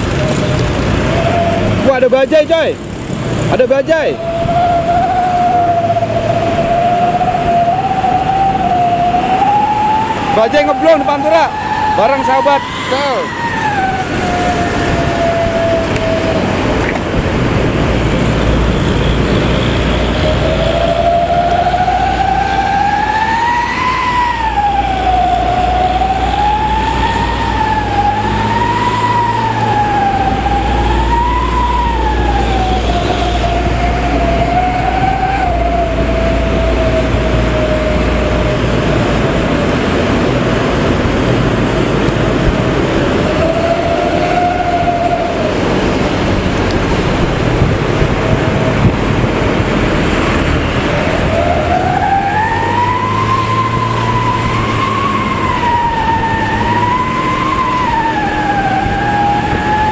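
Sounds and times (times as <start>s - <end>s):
bus exhaust howling: 0.0s - 59.9s
low road and engine rumble: 0.0s - 59.9s.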